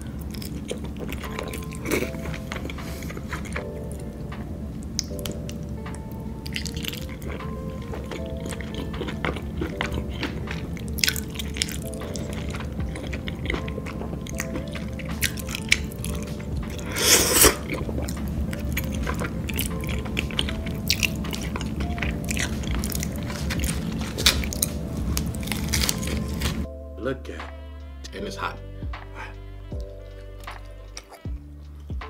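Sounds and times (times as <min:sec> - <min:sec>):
wet chewing and mouth clicks: 0:00.0 - 0:26.7, 0:29.2 - 0:31.4
background music: 0:00.0 - 0:32.0.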